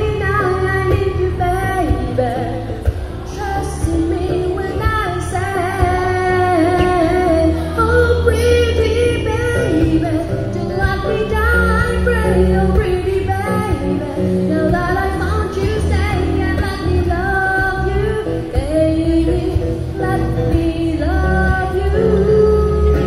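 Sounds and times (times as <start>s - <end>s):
amplified accompaniment with bass: 0.0s - 23.0s
woman singing pop song: 0.0s - 23.0s.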